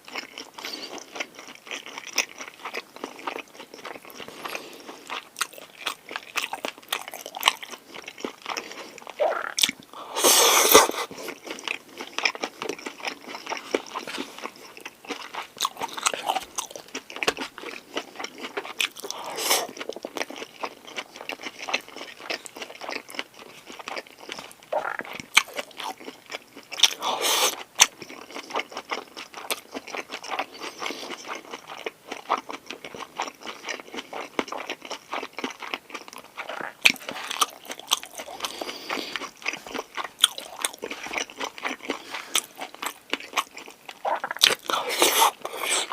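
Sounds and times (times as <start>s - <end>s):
chewing and crunching food: 0.0s - 45.9s.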